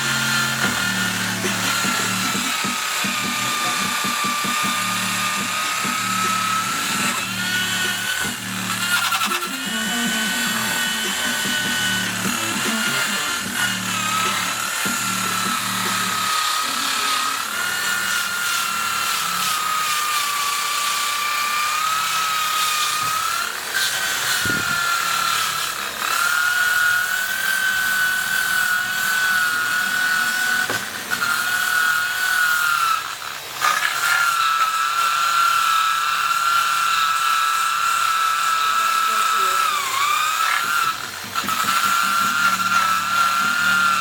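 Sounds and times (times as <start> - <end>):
power tool whining on wood: 0.0 - 44.0.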